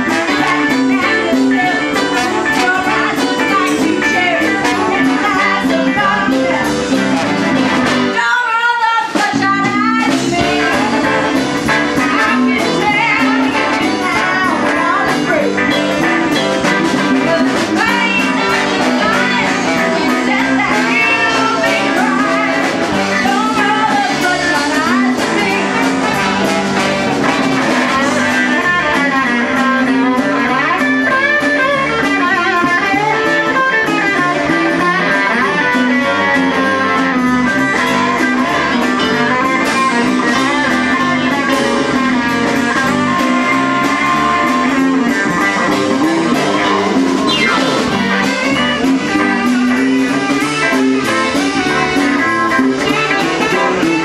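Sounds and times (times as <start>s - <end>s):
live swing blues band: 0.0s - 54.0s.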